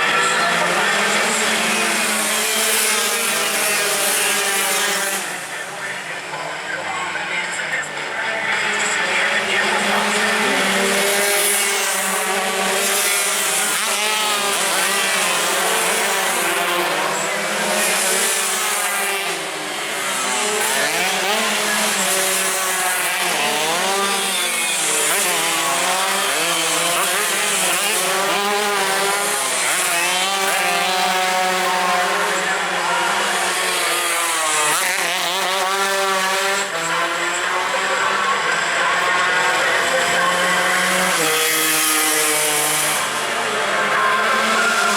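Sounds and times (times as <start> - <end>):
motorcycles racing and revving: 0.0 - 44.9.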